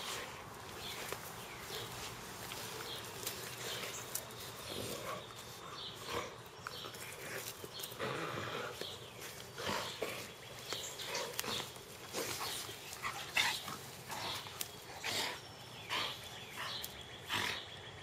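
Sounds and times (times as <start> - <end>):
dogs growling and snarling: 0.0 - 17.9.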